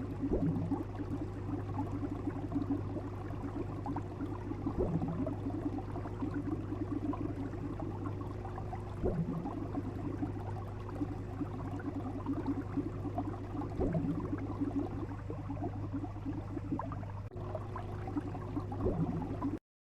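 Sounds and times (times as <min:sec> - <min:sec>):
steady low hum: 0:00.0 - 0:19.6
water bubbling and gurgling: 0:00.0 - 0:19.6.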